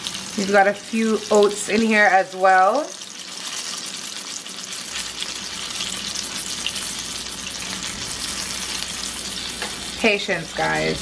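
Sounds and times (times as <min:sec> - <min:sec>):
batter sizzling in oil: 0:00.0 - 0:11.0.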